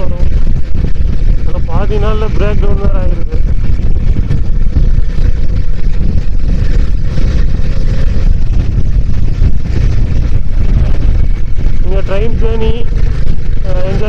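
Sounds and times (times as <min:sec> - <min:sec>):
motorcycle engine rumble: 0:00.0 - 0:14.0
wind buffeting microphone: 0:00.0 - 0:14.0.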